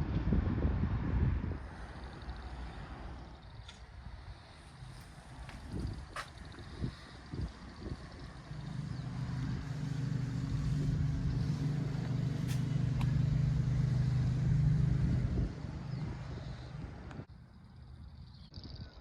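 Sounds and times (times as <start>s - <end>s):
vehicle engine humming: 1.4s - 18.5s.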